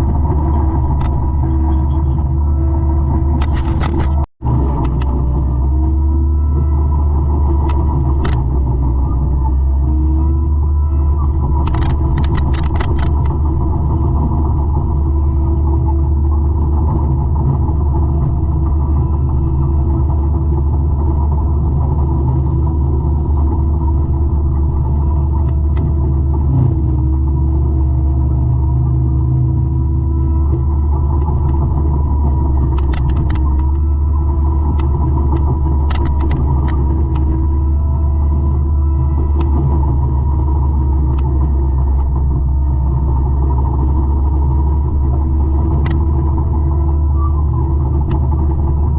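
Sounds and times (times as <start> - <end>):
forestry mulcher droning: 0.0 - 48.9.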